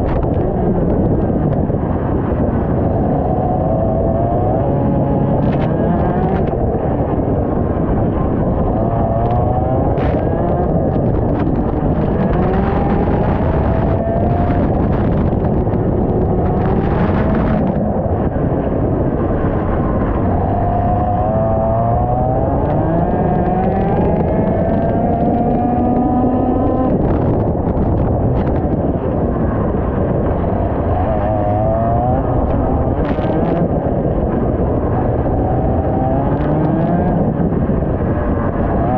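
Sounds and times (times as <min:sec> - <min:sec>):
wind noise on microphone: 0:00.0 - 0:38.9
kart engine accelerating: 0:01.8 - 0:38.9.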